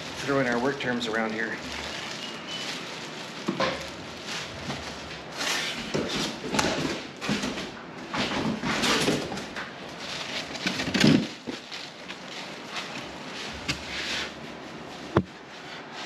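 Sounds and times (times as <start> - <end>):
packaging rustling and scraping: 0.0 - 7.6, 8.2 - 16.0.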